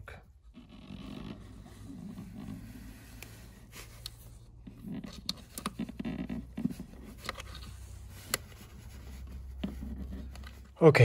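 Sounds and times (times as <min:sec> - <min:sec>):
wire rubbing and scraping rubber: 0:00.3 - 0:10.8.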